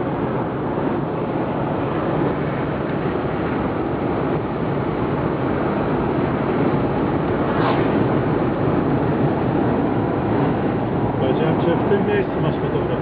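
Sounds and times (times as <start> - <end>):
engine hum: 0.0 - 13.0
wind noise: 0.0 - 13.0.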